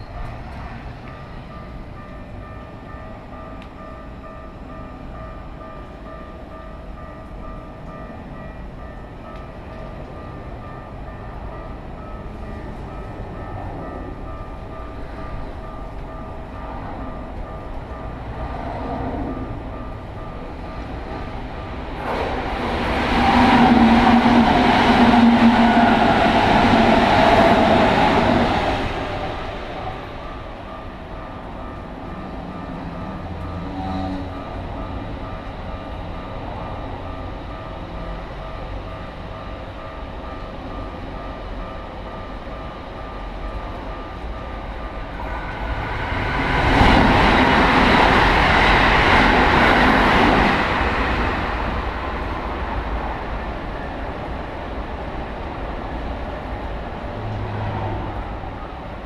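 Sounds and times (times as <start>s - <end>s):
crossing warning bell ringing: 0.0s - 59.0s
trains passing: 0.0s - 59.0s.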